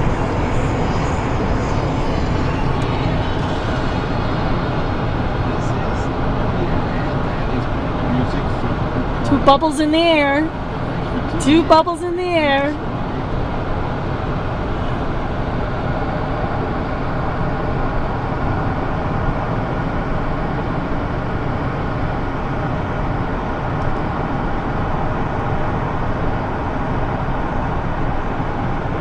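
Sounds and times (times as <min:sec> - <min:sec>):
car road and engine noise: 0:00.0 - 0:29.0.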